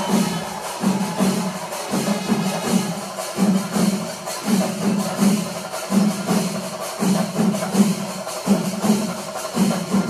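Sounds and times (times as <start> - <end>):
drum strokes: 0.0 - 10.0
metallic cymbal clashes: 0.0 - 10.0.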